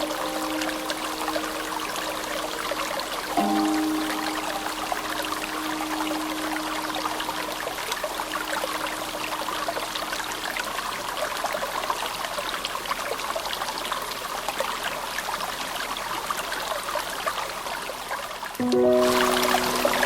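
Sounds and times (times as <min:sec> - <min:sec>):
stream splashing and trickling: 0:00.0 - 0:20.0.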